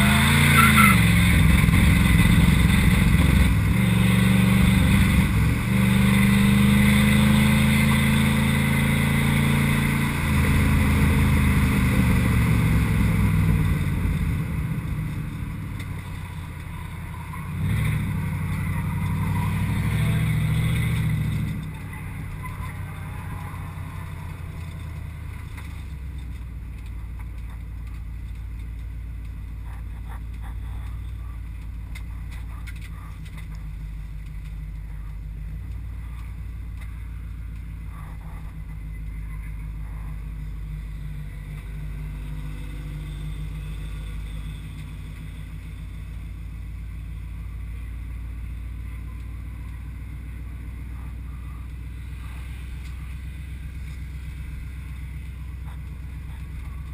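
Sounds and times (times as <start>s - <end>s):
car engine low drone: 0.0s - 56.9s.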